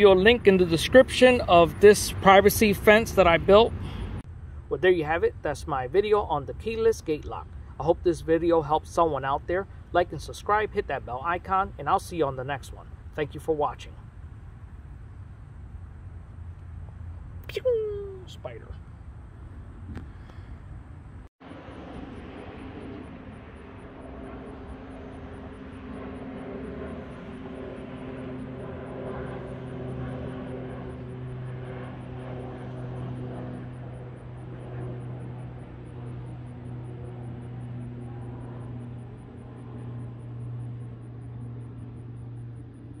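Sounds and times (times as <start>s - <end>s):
distant engine drone: 0.0s - 43.0s.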